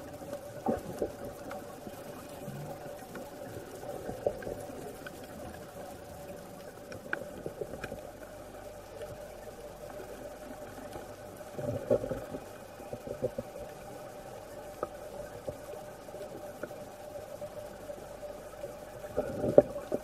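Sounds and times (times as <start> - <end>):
underwater hum: 0.0 - 20.0
faint clicks: 0.1 - 20.0.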